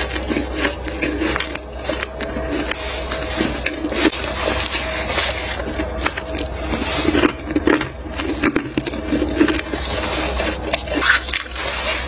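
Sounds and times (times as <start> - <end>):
crunching and chewing frost: 0.0 - 12.0.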